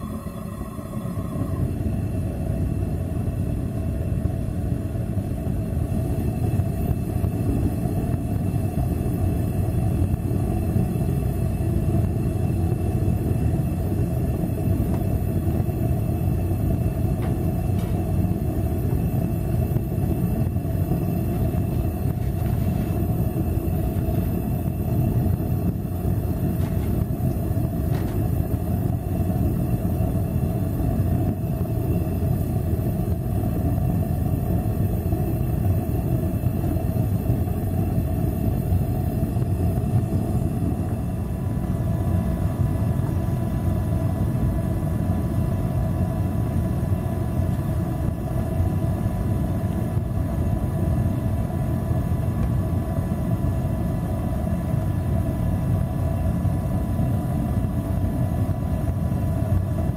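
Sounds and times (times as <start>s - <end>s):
burner flame rumbling: 0.0s - 59.9s.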